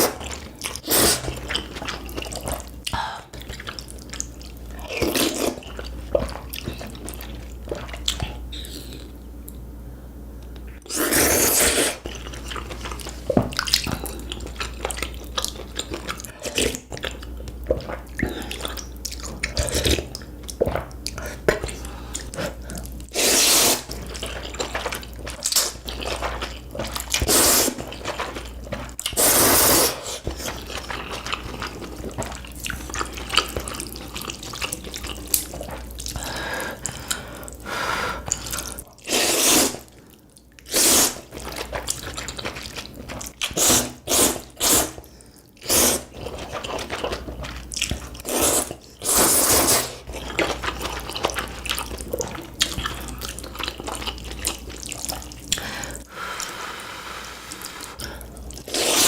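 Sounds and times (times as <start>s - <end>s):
noodles being slurped: 0.0s - 2.8s, 10.9s - 37.6s, 38.2s - 40.0s, 40.6s - 56.6s, 57.4s - 59.0s
wet chewing: 0.0s - 9.2s, 11.0s - 56.5s.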